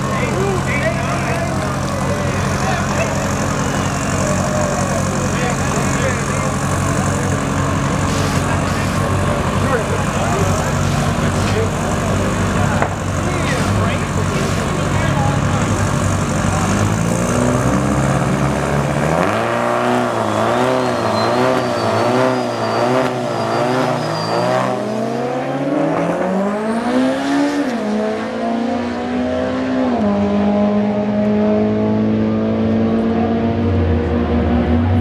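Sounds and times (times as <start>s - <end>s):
drag car engine accelerating: 0.0s - 35.0s.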